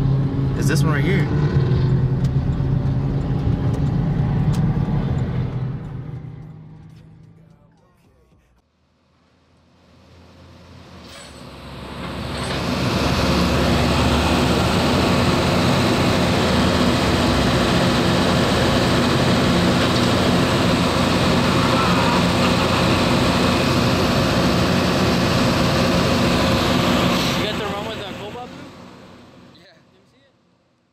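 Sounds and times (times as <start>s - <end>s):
car engine running: 0.0s - 8.6s, 10.0s - 29.5s.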